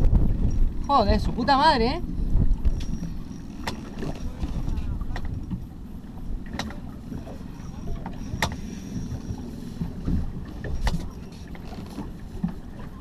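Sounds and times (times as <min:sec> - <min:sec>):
low rumble: 0:00.0 - 0:13.0
water lapping against boat hull: 0:00.0 - 0:13.0.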